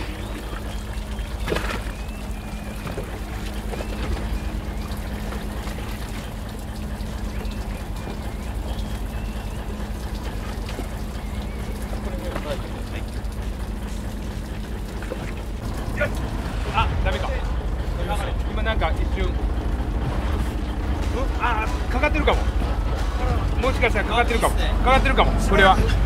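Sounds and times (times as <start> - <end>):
boat engine idling: 0.0 - 26.0
water trickling and splashing: 0.0 - 26.0.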